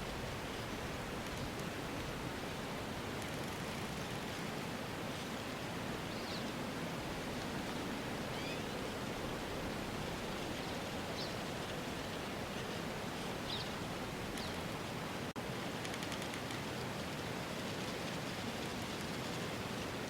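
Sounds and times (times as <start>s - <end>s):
wind or rustling hiss: 0.0s - 20.0s.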